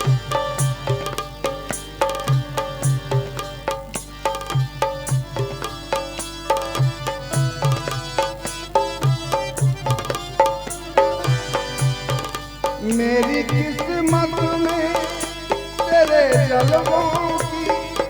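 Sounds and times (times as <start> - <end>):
hand drum beating: 0.0 - 18.0
plucked melody: 0.0 - 18.0.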